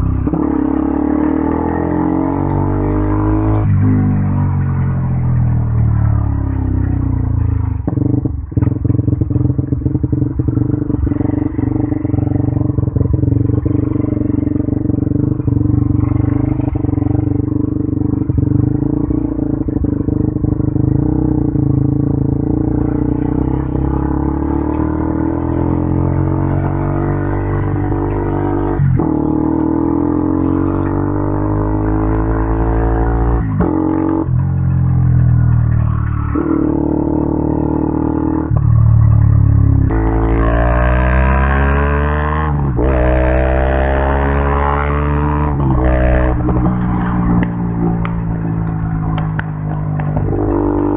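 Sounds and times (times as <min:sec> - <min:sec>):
motorcycle engine: 0:00.0 - 0:50.9.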